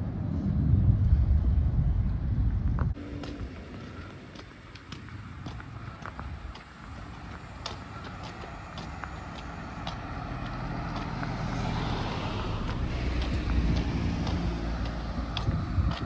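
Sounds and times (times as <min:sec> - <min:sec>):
car approaching: 0:00.0 - 0:16.0.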